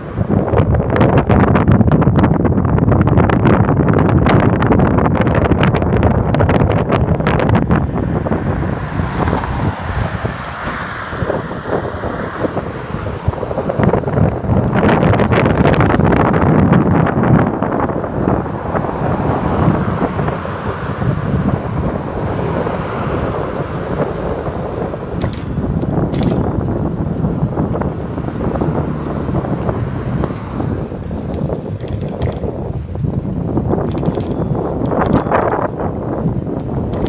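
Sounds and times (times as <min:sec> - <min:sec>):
tyres rolling on asphalt: 0:00.0 - 0:37.0
wind buffeting microphone: 0:00.0 - 0:37.0.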